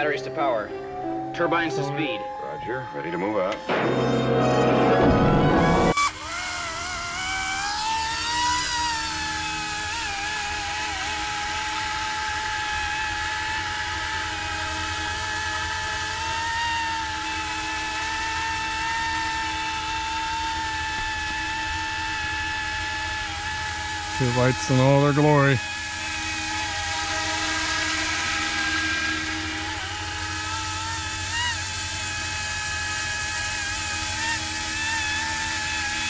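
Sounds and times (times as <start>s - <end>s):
toy helicopter motor whine: 5.2s - 36.0s.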